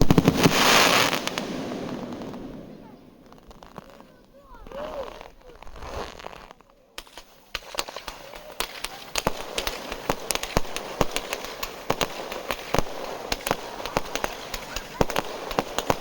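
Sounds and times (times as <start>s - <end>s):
crackling hiss: 0.0s - 16.0s
fireworks bangs and pops: 0.0s - 16.0s.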